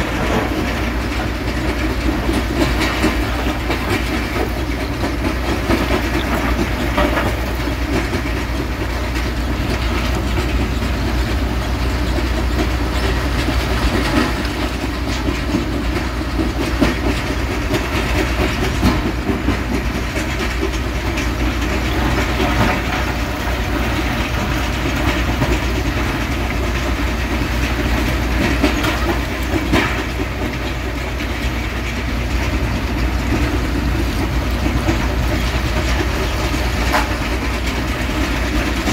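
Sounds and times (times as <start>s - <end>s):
excavator diesel engine and hydraulics: 0.0s - 38.9s
rock crusher rattling: 0.0s - 38.9s.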